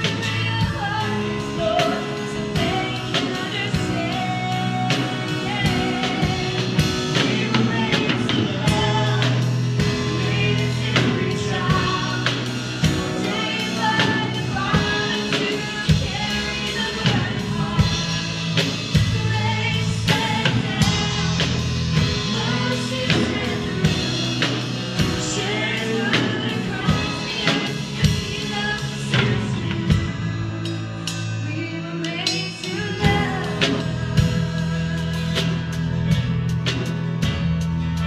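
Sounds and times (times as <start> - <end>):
woman singing: 0.0 - 36.6.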